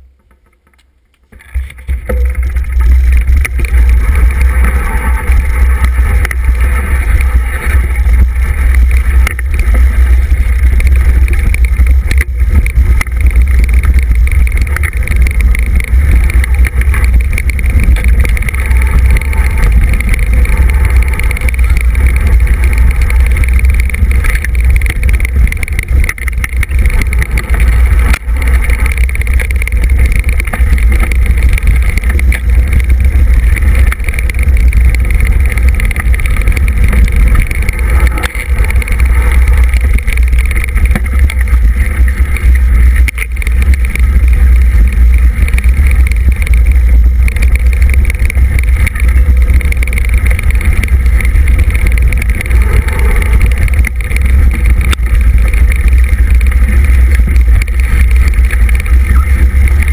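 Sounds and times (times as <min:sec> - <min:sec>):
wind and vibration rumble on microphone: 0:00.0 - 0:59.9.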